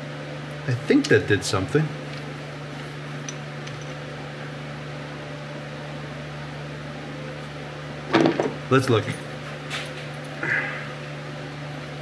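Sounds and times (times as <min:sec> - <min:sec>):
fan-like mechanical hum: 0:00.0 - 0:12.0.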